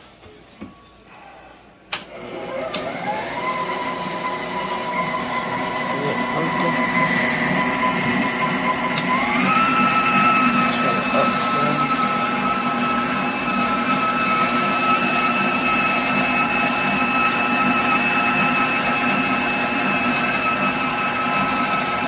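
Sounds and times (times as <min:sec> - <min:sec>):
stand mixer motor whining: 0:02.1 - 0:22.0.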